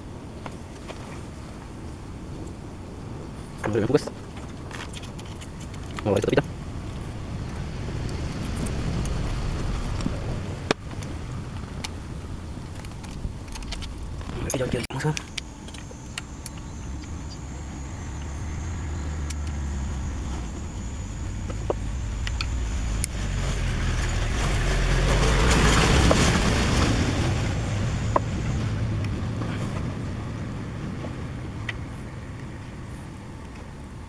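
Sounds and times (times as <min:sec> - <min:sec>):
vehicle engine passing by: 0:05.2 - 0:33.2.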